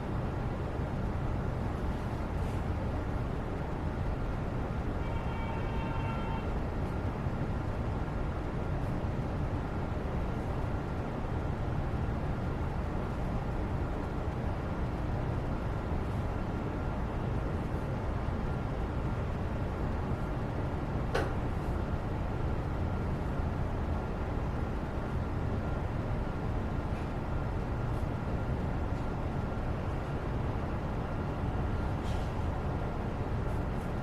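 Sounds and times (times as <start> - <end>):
low rumbling background noise: 0.0 - 34.0.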